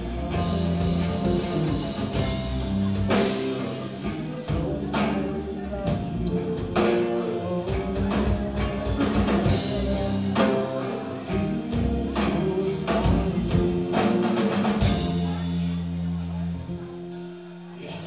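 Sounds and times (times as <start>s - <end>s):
person singing: 0.0s - 15.8s
drums beating: 0.0s - 17.3s
indie rock band playing: 0.0s - 18.0s.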